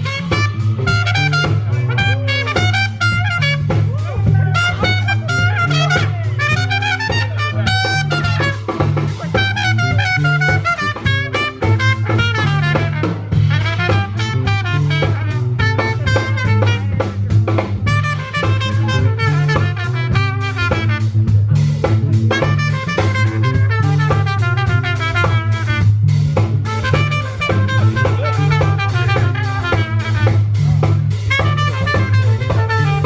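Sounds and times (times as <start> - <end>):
bass line: 0.0 - 33.0
drum kit: 0.0 - 33.0
swing jazz band: 0.0 - 33.0
trumpet lead: 0.0 - 33.0.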